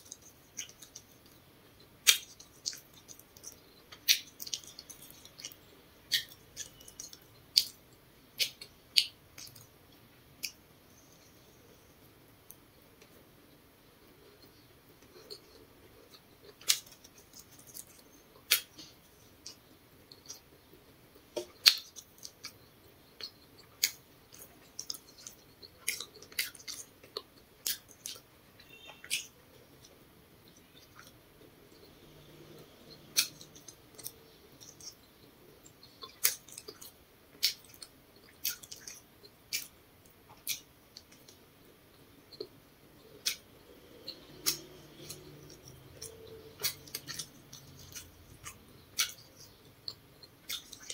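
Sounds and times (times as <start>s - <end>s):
person chewing: 0.0s - 1.4s, 2.0s - 9.7s, 14.0s - 50.9s
mouth clicks and lip smacks: 0.0s - 9.7s, 10.4s - 10.6s, 14.0s - 50.9s.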